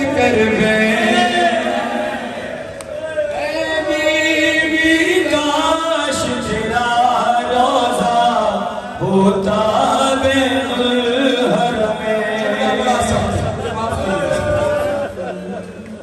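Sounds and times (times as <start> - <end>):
man chanting a lament: 0.0 - 2.5, 3.1 - 15.5.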